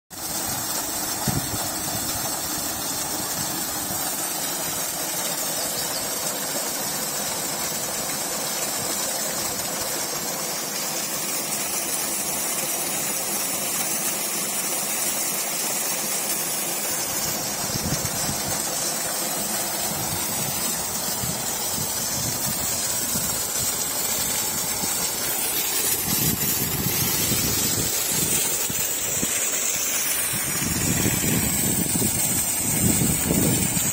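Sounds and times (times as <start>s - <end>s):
water gushing into a pond: 0.1s - 33.9s.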